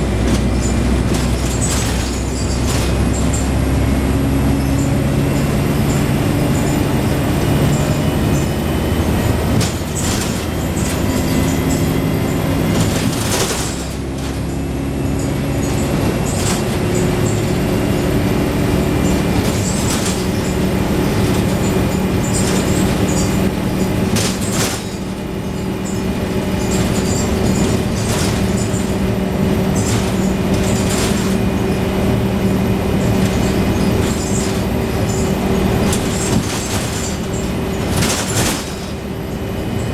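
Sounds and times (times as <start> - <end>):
bus body rattling: 0.0 - 39.9
bus diesel engine: 0.0 - 39.9
sharp knocks and clatters: 0.1 - 3.6, 9.3 - 31.9, 32.8 - 39.1.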